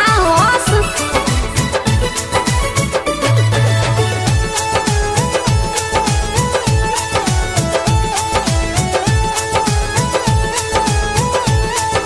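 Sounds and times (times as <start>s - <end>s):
fast low drum beat: 0.0s - 12.0s
steady instrumental melody: 0.0s - 12.0s.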